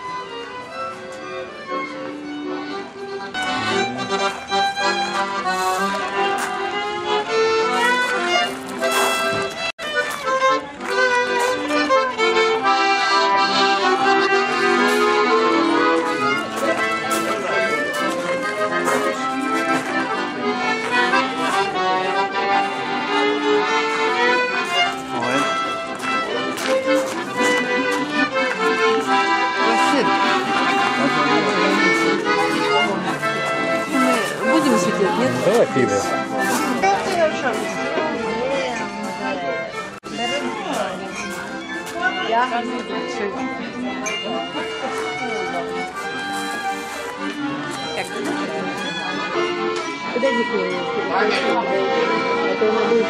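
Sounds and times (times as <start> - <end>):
accordion playing melody: 0.0 - 53.0
violin playing: 0.0 - 53.0.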